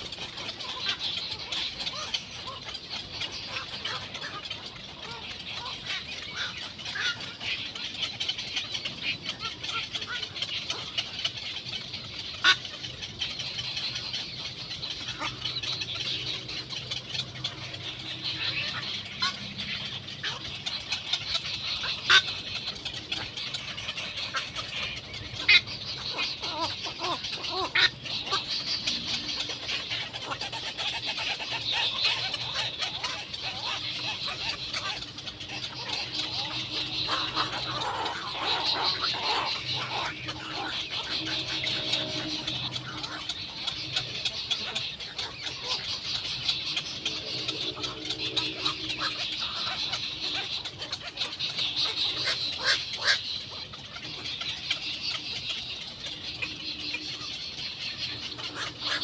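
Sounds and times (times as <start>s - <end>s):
nestlings harsh chattering: 0.0s - 59.0s.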